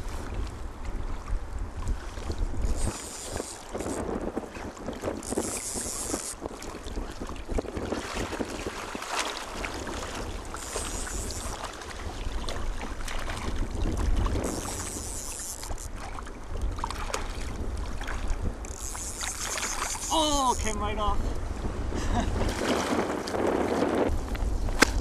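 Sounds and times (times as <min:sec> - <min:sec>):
small waves lapping: 0:00.0 - 0:25.0
wind buffeting microphone: 0:00.0 - 0:25.0.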